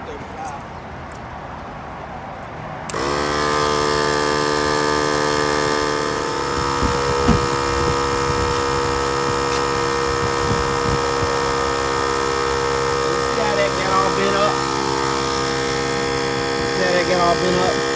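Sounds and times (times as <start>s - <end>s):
tyre inflator motor buzzing: 2.9s - 17.9s.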